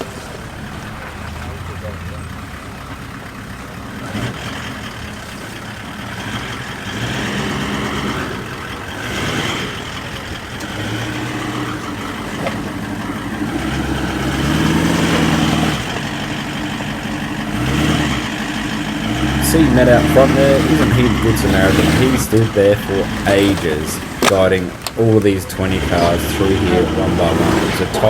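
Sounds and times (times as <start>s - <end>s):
off-road engine revving: 0.0s - 28.0s.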